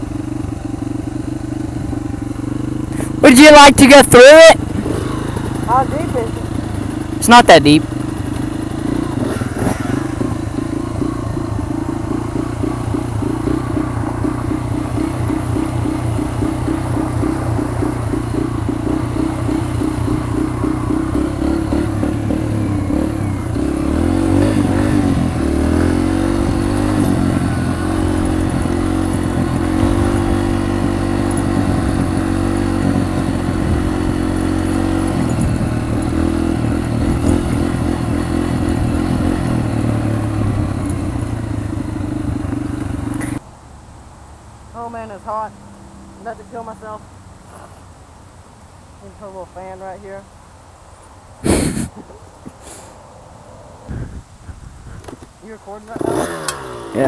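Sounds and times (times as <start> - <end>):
dirt bike engine revving: 0.0 - 43.4, 53.9 - 57.0.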